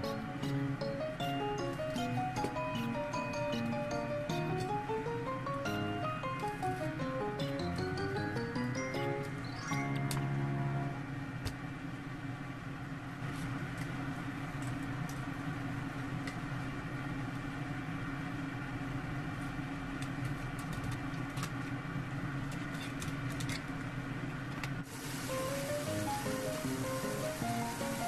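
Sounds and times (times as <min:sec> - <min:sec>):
low machine hum: 0:00.0 - 0:23.0, 0:23.7 - 0:28.0.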